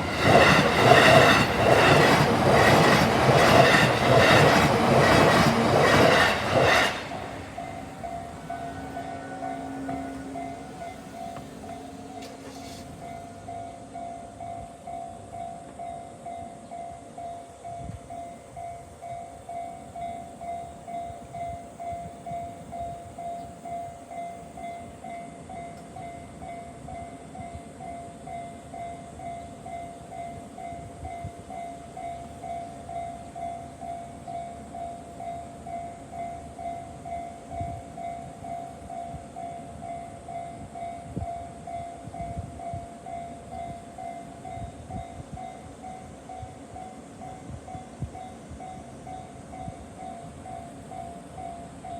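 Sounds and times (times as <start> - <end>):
railroad crossing warning bell: 0.0 - 51.9.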